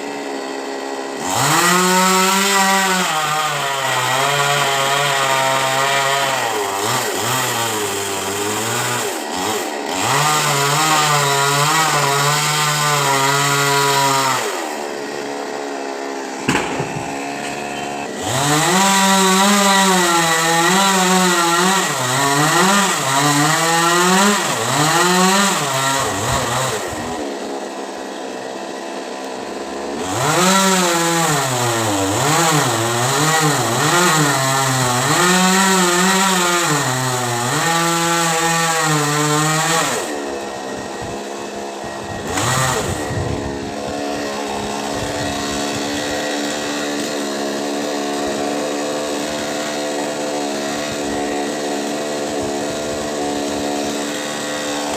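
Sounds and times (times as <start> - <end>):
chainsaw cutting tree: 0.0 - 54.9.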